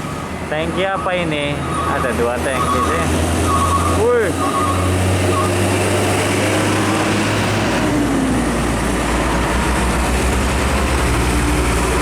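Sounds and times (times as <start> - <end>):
heavy truck engine: 0.0 - 12.0.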